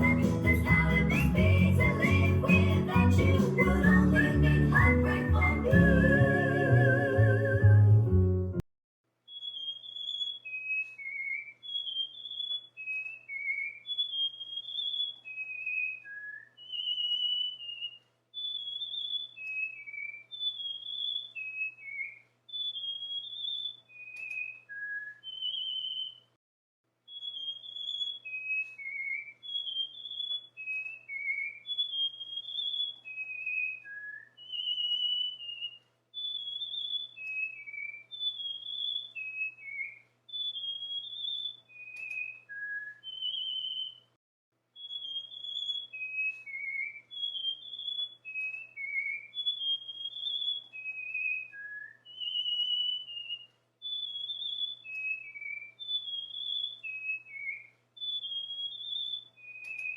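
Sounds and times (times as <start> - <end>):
cockatiel whistling: 0.0 - 7.8, 9.3 - 26.3, 27.1 - 44.1, 44.8 - 59.9.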